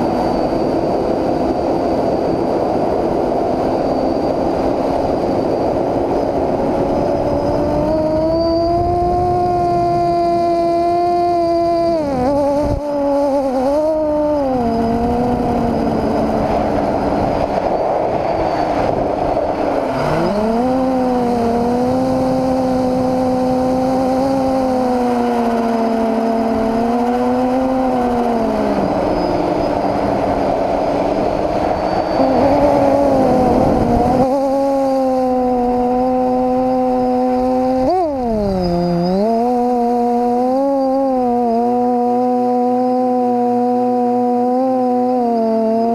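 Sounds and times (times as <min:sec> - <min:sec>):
drone motors whining: 0:00.0 - 0:45.9
rush of wind: 0:00.0 - 0:45.9.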